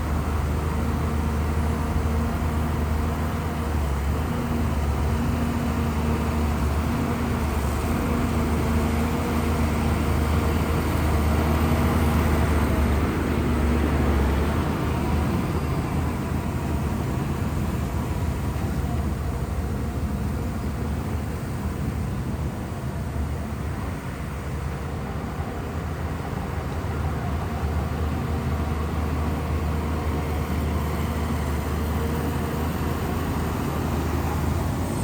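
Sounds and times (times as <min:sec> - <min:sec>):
bulldozer diesel engine droning: 0:00.0 - 0:35.0.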